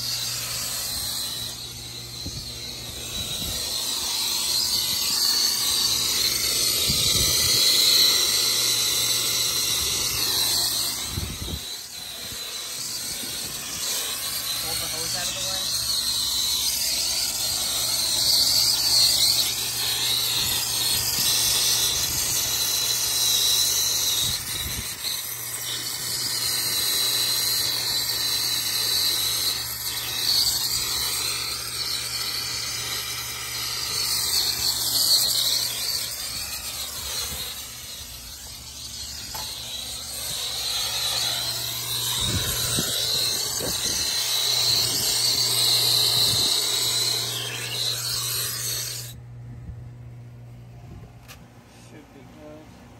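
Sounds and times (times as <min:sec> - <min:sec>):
torch flame hissing: 0:00.0 - 0:49.2
condenser humming: 0:00.0 - 0:52.9.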